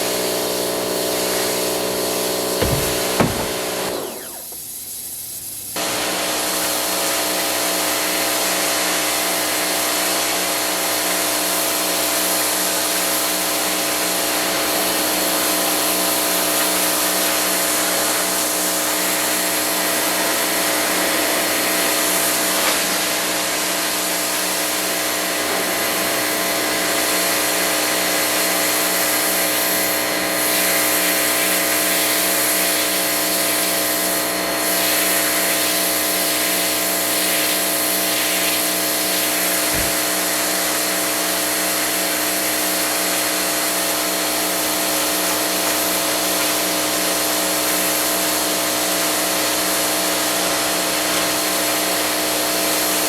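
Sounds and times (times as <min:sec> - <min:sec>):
pressure washer spraying water: 0:00.0 - 0:53.0.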